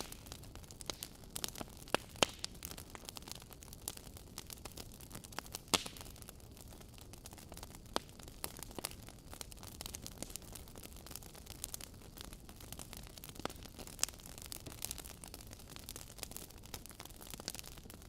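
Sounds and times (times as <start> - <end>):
fireplace fire crackling: 0.0 - 18.0
low hiss of burning logs: 0.0 - 18.0.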